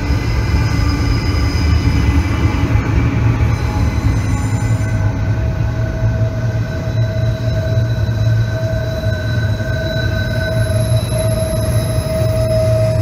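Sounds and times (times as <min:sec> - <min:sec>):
low train rumble: 0:00.0 - 0:13.0
train wheels squealing: 0:00.0 - 0:13.0.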